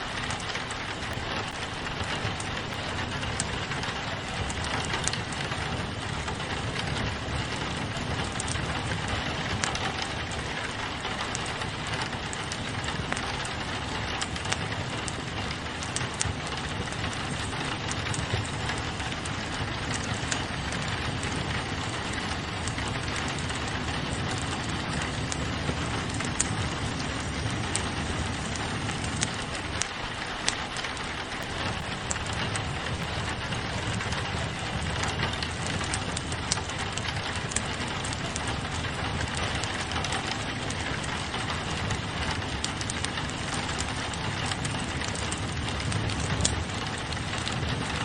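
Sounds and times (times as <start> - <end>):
fireplace crackling: 0.0 - 48.0
rain pattering on a window: 0.0 - 48.0
sharp pops and ticks: 0.0 - 48.0.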